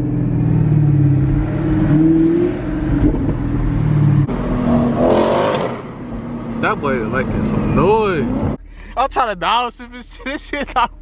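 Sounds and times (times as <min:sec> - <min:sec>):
car engine under load: 0:00.0 - 0:09.7.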